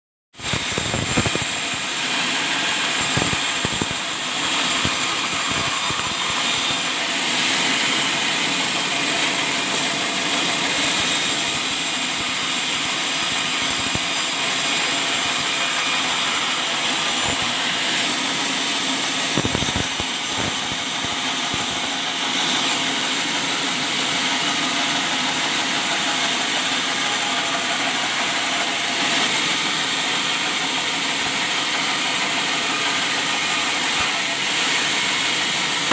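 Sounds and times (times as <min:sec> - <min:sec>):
sawmill sawing log: 0:00.6 - 0:19.4, 0:20.0 - 0:35.9.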